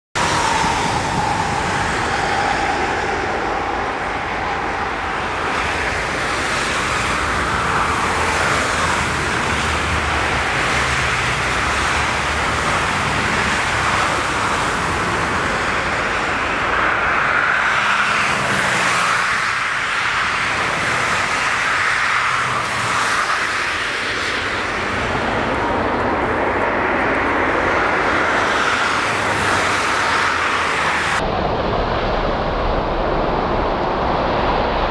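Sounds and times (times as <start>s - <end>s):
faint jet engine whine: 0.2s - 34.9s
jet airliner roar: 0.2s - 34.9s.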